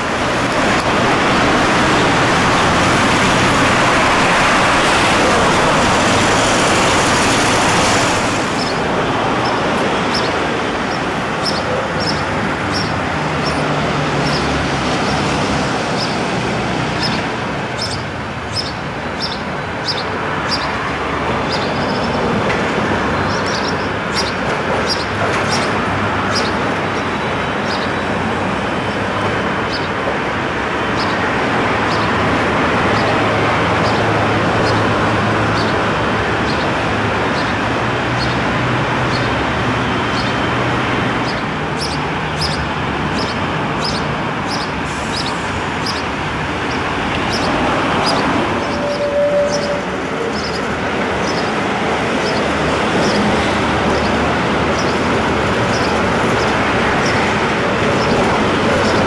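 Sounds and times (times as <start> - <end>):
car passing with loud rush: 0.0 - 19.0, 28.2 - 59.0
tram humming on track: 0.0 - 59.0.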